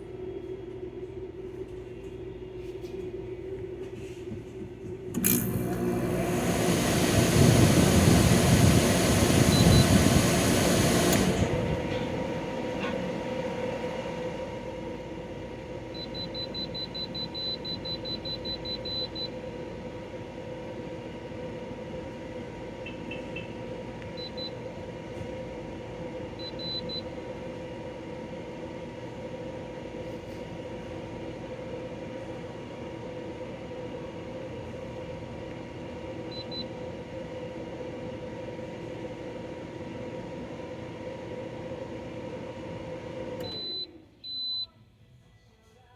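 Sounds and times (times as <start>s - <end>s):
air conditioner humming: 0.0s - 45.9s.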